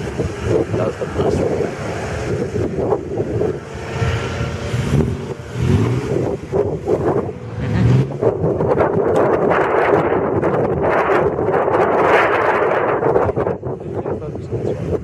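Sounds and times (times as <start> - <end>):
racing car engines running: 0.0 - 15.0
wind buffeting microphone: 0.0 - 15.0.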